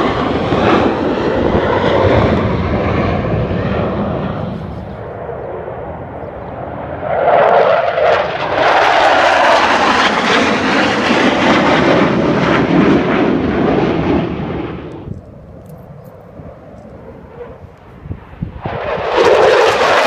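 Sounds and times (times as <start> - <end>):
fighter jets flying past: 0.0 - 20.0.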